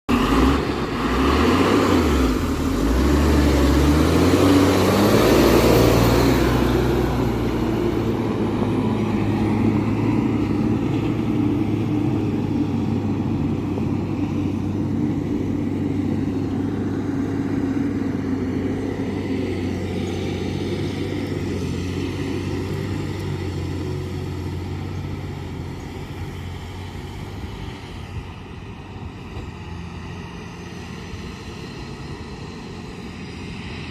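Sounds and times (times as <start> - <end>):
diesel truck engine revving: 0.1 - 33.9.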